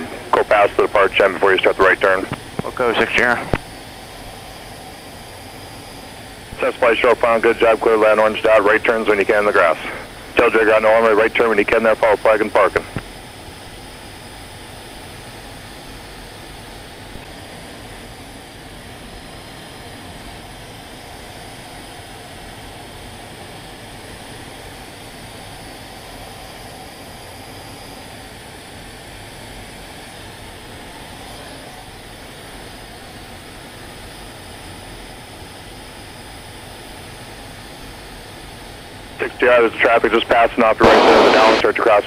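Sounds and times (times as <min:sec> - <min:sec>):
jet engine cockpit noise: 0:00.0 - 0:42.0.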